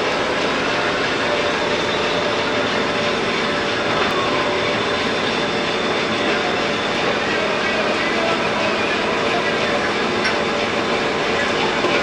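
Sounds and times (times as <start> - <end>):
lathe machining metal: 0.0 - 12.0.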